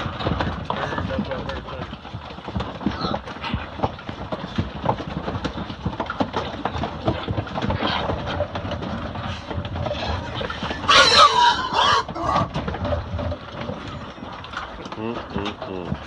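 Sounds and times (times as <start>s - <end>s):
hogs chewing and tearing carcass: 0.0s - 16.0s.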